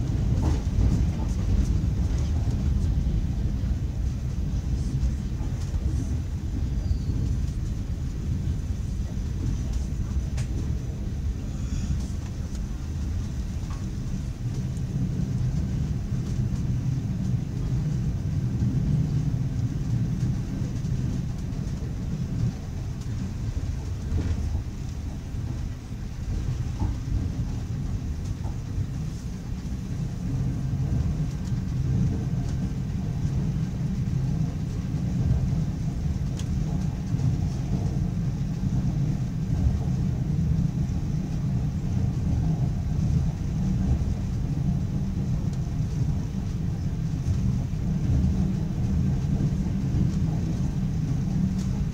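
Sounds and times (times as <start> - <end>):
train carriage low rumble: 0.0 - 51.9.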